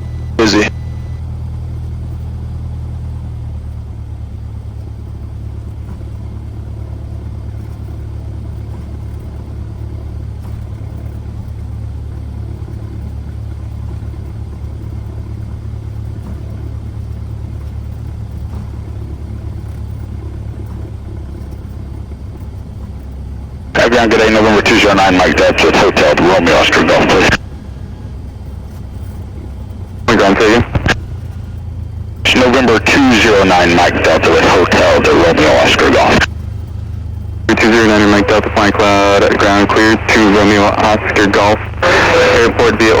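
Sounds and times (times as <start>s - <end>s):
airplane engine droning: 0.0s - 1.2s, 4.6s - 43.0s.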